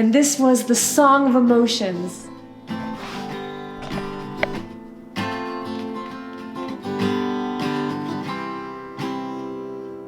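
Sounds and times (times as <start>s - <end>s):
acoustic guitar strumming chords: 1.8s - 10.0s.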